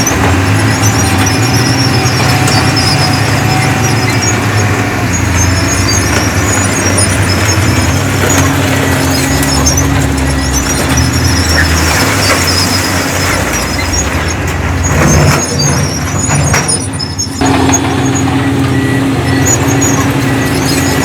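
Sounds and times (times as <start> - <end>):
diesel engine running under load: 0.0 - 21.0
short high-pitched squeaks: 0.0 - 21.0.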